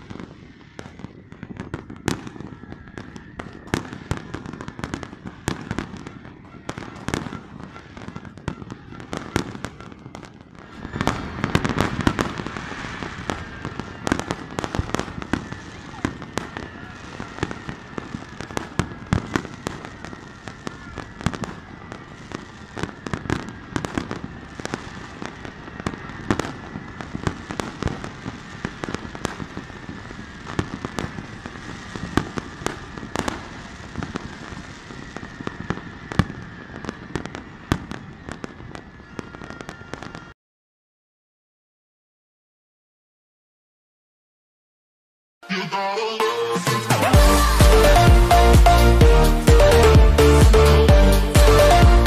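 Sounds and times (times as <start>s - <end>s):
fireworks bangs and crackling: 0.0s - 40.4s, 45.8s - 52.0s.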